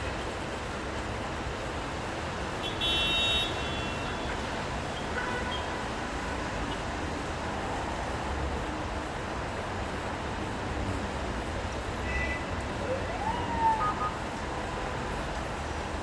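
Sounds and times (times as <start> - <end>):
wet traffic: 0.0 - 16.0.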